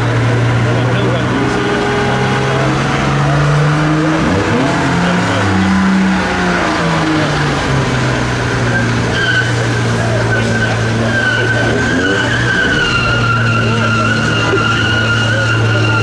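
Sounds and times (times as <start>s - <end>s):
car engine revving high: 0.0s - 16.0s
tyres squealing: 0.0s - 16.0s.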